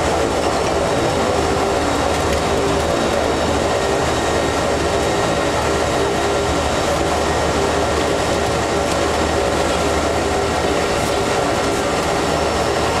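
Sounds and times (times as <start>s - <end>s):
vehicle engine drone: 0.0s - 13.0s.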